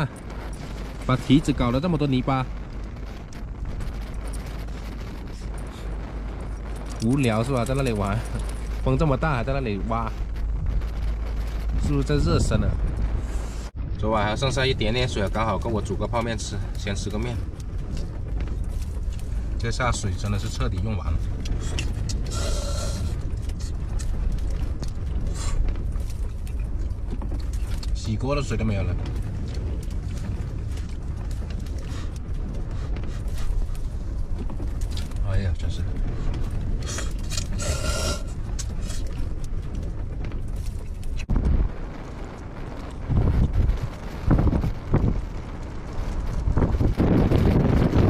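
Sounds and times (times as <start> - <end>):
strong wind buffeting van: 0.0 - 48.0.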